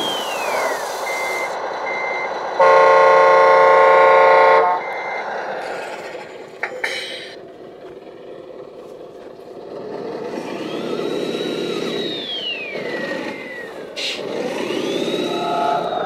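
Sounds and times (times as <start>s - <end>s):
rough engine-like rumble: 0.0s - 16.0s.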